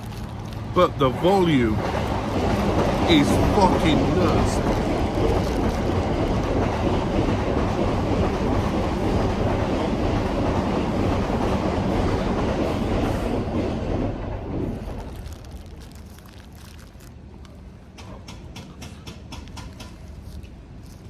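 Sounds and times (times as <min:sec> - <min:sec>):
train rumble with wheel clatter: 0:00.0 - 0:21.0.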